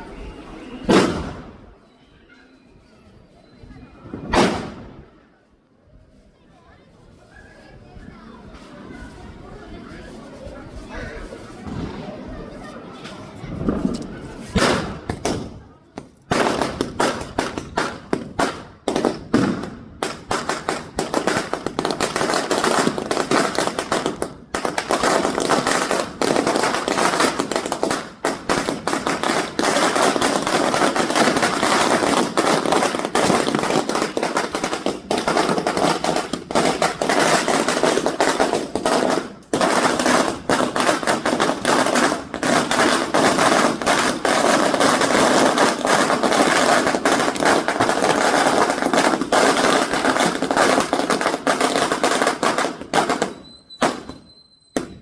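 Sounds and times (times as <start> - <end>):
firecrackers rattling: 10.1 - 55.0.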